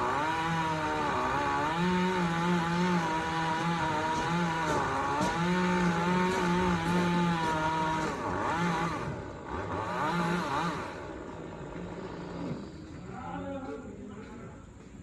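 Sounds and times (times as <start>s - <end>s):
chainsaw engine running: 0.0s - 14.9s.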